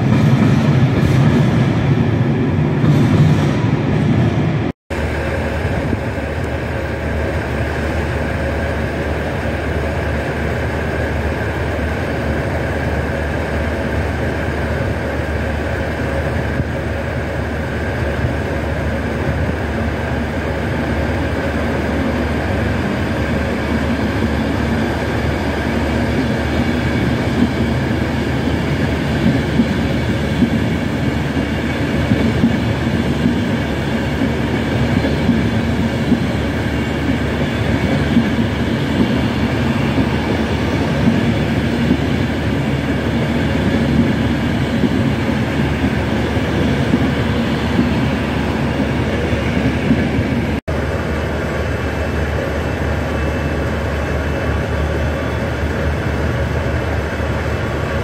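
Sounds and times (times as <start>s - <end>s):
electric train rolling past: 0.0s - 58.0s.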